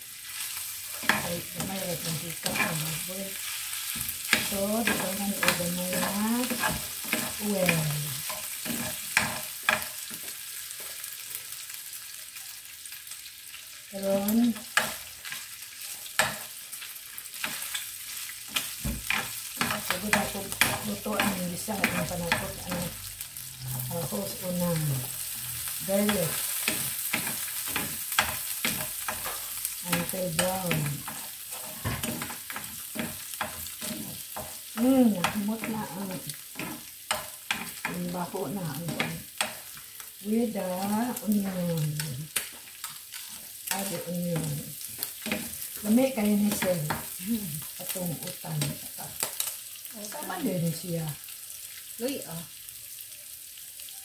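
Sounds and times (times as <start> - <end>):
meat sizzling in a frying pan: 0.0 - 54.0
spatula scraping a pan: 0.2 - 10.8, 14.5 - 40.1, 40.8 - 48.0.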